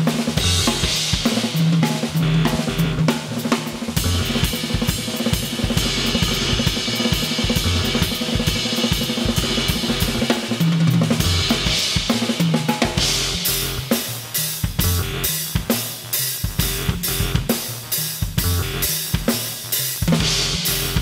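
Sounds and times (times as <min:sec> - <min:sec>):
drum kit playing fast groove: 0:00.0 - 0:21.0.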